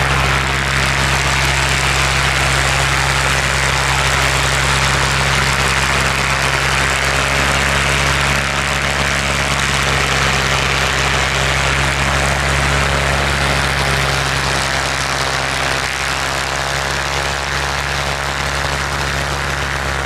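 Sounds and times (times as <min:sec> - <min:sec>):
aircraft engine droning: 0:00.0 - 0:20.0.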